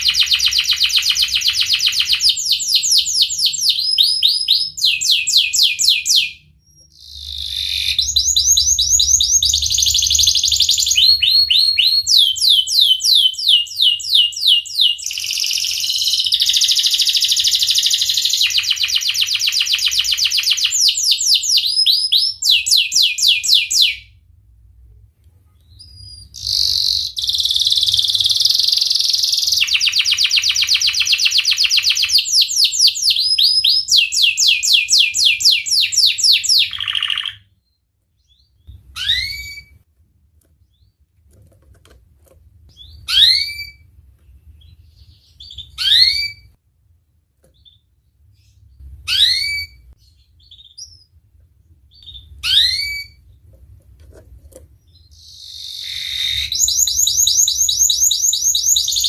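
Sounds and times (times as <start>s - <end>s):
canary singing trills: 0.0s - 24.1s, 25.6s - 39.8s, 42.7s - 46.6s, 47.6s - 51.2s, 51.9s - 53.4s, 54.8s - 59.0s
canary chirps: 0.0s - 24.2s, 25.5s - 39.8s, 40.4s - 41.1s, 42.7s - 46.6s, 47.4s - 53.6s, 54.5s - 59.0s.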